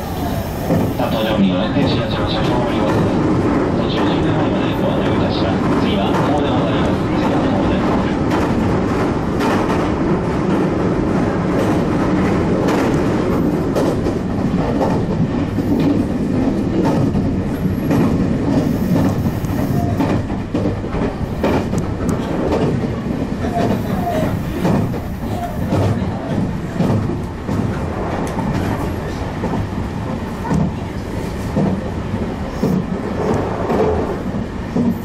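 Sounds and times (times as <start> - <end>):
train rumble: 0.0 - 35.0
wheels clacking over rails: 0.6 - 35.0.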